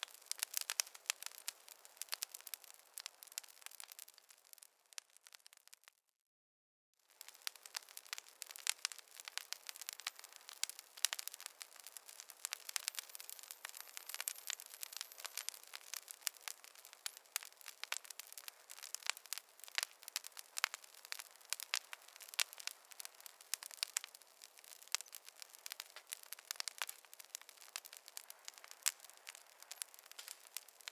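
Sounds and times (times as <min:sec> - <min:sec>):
campfire crackling: 0:00.0 - 0:06.0, 0:07.0 - 0:30.9.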